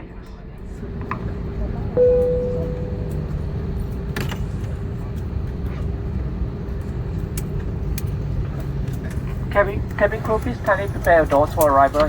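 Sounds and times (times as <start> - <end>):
airliner cabin rumble: 0.4 - 12.0.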